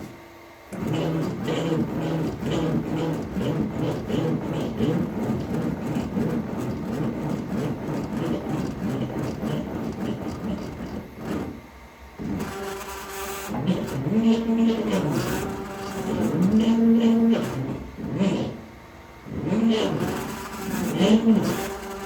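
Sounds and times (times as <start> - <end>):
power tool running on wood: 0.7 - 22.0.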